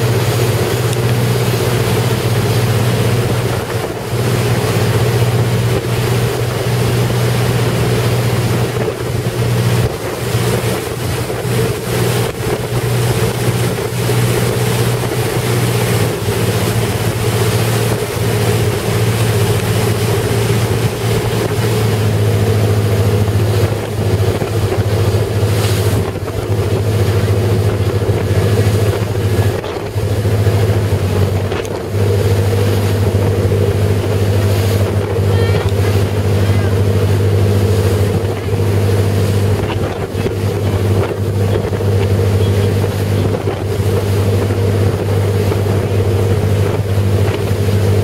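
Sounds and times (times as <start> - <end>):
motorboat engine droning: 0.0 - 48.0
water rushing past hull: 0.0 - 48.0
wind buffeting microphone: 0.0 - 48.0.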